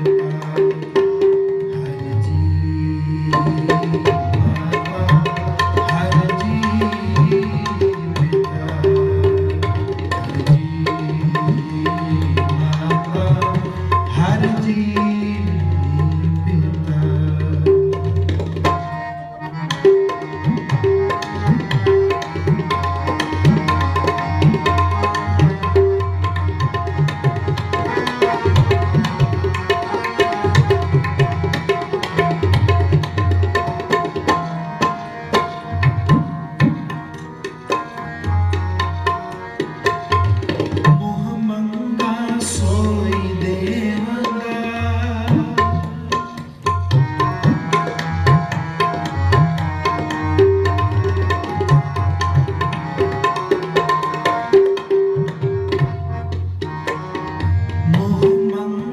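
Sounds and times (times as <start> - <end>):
harmonium holding notes: 0.0 - 58.9
tabla playing dense strokes: 0.0 - 58.9.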